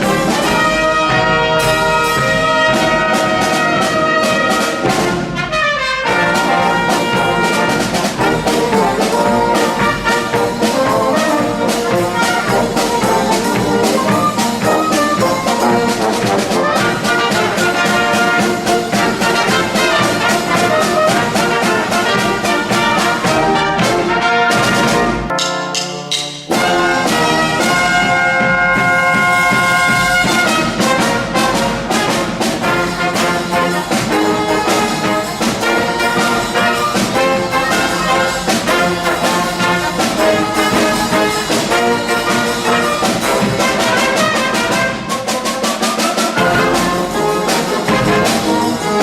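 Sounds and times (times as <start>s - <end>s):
brass trumpets and trombones: 0.0s - 49.0s
percussion steady beat: 0.0s - 49.0s.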